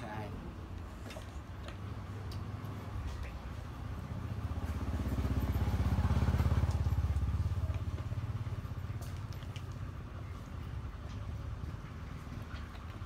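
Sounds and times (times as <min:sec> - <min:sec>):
passing vehicle engine hum: 0:01.9 - 0:12.6.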